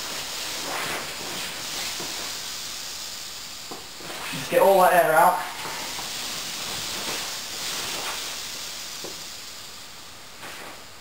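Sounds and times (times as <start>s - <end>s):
air hissing from valve: 0.0s - 11.0s.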